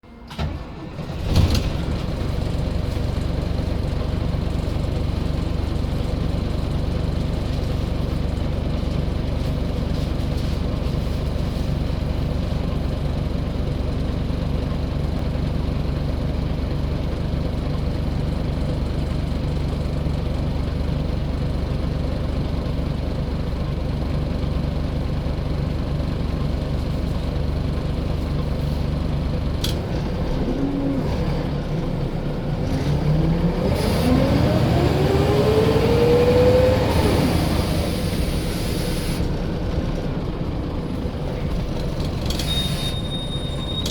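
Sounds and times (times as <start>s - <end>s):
diesel bus engine running: 0.0s - 43.9s.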